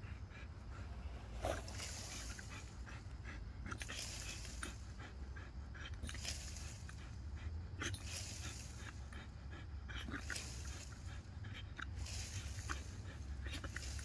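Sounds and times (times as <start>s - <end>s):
dog panting: 0.0s - 14.0s
steady low hum: 0.0s - 14.0s.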